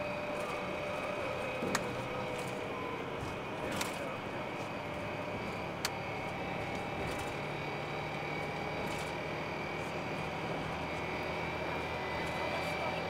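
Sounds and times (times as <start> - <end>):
faint steady whine: 0.0 - 13.0
vehicle road noise: 0.0 - 13.0.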